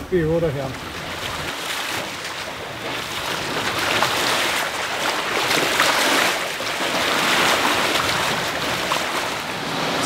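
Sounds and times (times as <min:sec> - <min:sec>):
sea water rushing past hulls: 0:00.0 - 0:10.0.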